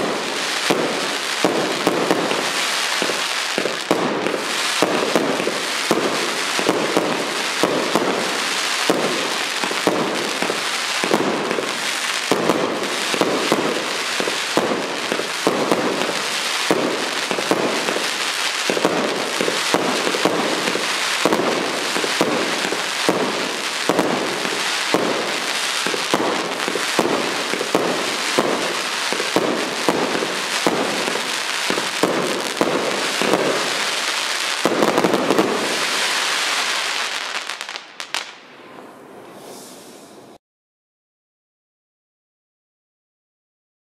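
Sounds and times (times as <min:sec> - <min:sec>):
firework pops and crackling bangs: 0:00.0 - 0:38.8.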